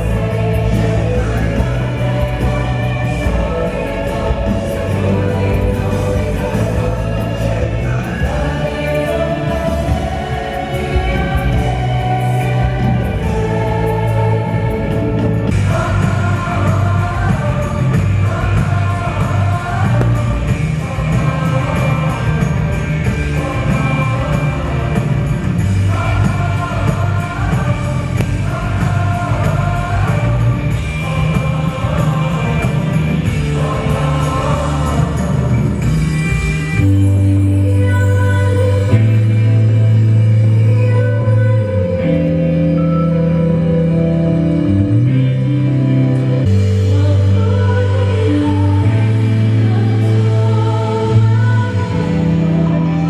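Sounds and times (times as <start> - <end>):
stage show music with singing: 0.0 - 53.0.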